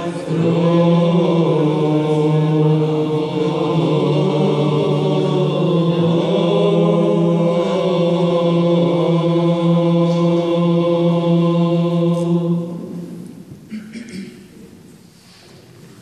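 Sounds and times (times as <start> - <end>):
male voices chanting: 0.0 - 13.2
low held vocal drone: 0.0 - 14.2.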